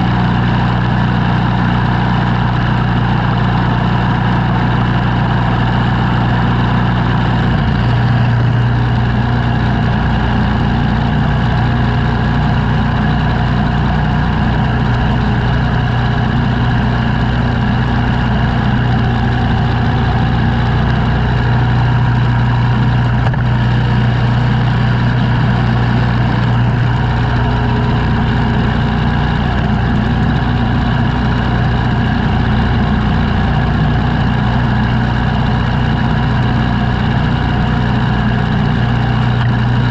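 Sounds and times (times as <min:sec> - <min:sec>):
engine running with low hum: 0:00.0 - 0:39.9.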